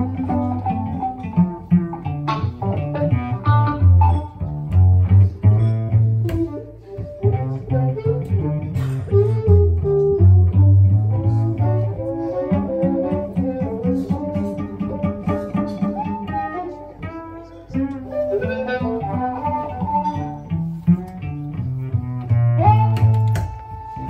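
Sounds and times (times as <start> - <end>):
cello walking bass line: 0.0 - 24.0
fiddle playing: 0.0 - 24.0.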